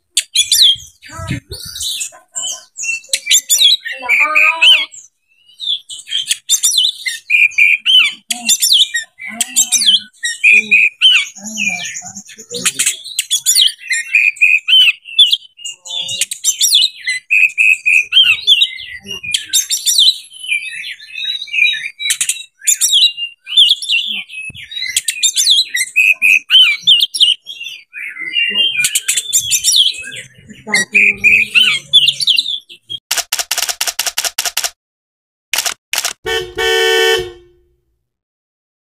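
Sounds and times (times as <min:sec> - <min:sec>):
bird singing: 0:00.0 - 0:33.0.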